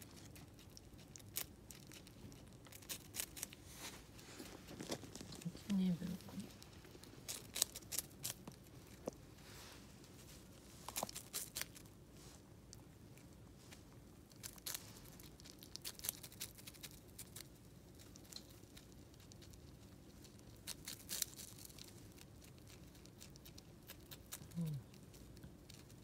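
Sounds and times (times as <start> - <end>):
squirrel crunching broccoli: 0.0 - 26.0.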